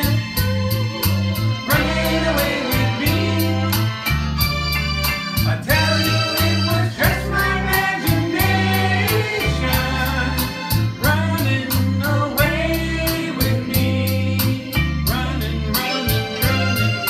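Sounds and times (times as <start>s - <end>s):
man singing into microphone: 0.0s - 0.5s, 1.7s - 4.1s, 5.4s - 17.0s
backing track with drum beat: 0.0s - 17.0s.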